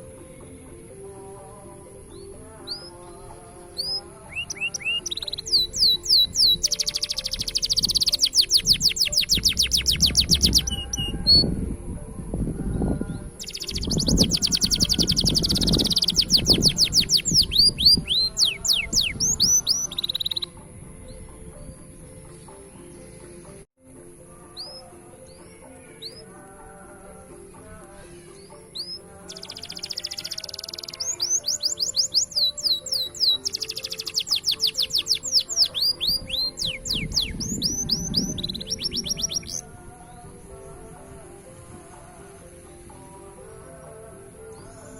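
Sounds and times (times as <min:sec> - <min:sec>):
canary singing: 0:00.0 - 0:11.7, 0:12.6 - 0:23.6, 0:24.3 - 0:44.9
background music: 0:00.0 - 0:44.9.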